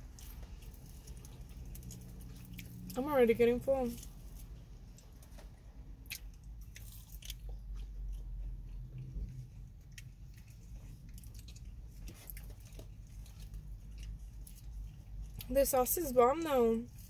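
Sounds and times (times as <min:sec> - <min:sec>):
chewing fried chicken: 0:00.0 - 0:17.0
low background rumble: 0:00.0 - 0:17.0.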